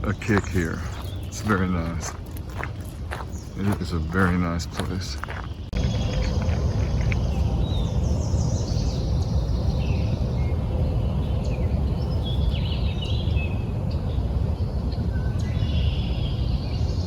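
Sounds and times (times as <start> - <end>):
low rumble: 0.0 - 17.0
songbirds chirping: 0.0 - 17.0.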